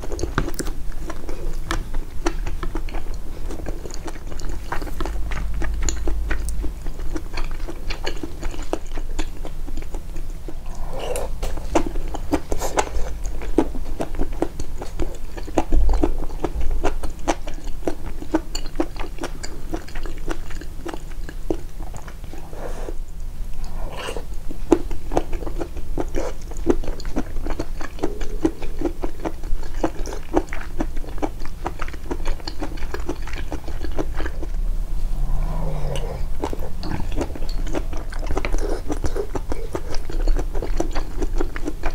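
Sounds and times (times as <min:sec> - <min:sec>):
person chewing food: 0:00.0 - 0:34.6, 0:35.2 - 0:41.9.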